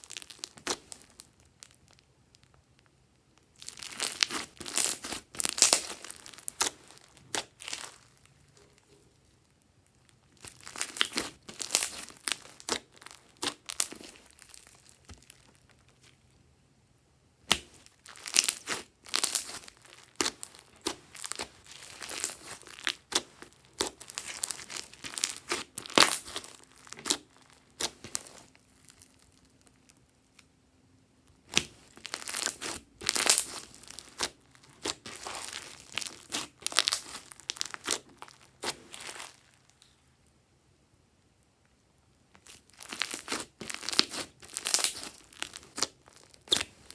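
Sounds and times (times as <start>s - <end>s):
slime squished crackling and popping: 0.0s - 2.6s, 3.4s - 9.3s, 9.9s - 16.2s, 17.4s - 30.4s, 31.4s - 40.0s, 42.3s - 46.9s.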